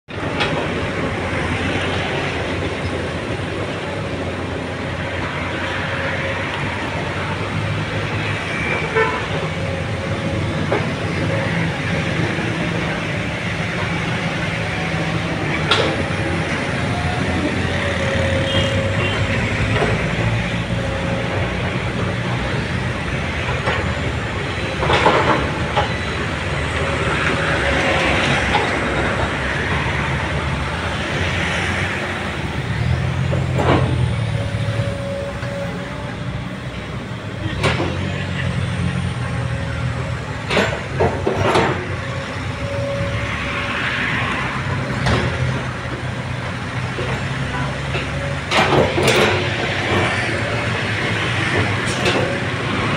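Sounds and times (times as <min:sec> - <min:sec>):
excavator diesel engine working: 0:00.1 - 0:52.9.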